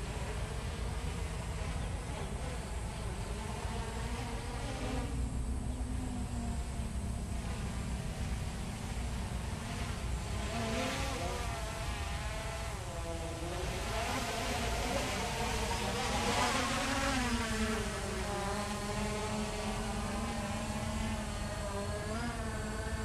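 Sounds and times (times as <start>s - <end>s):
drone rotors buzzing: 0.0s - 23.0s
low wind rumble: 0.0s - 23.0s.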